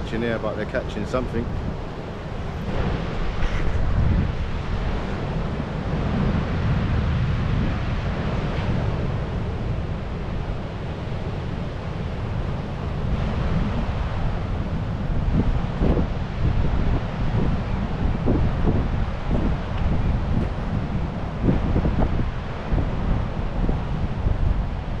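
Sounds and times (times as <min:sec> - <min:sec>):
ocean surf washing: 0:00.0 - 0:25.0
wind buffeting microphone: 0:00.0 - 0:25.0.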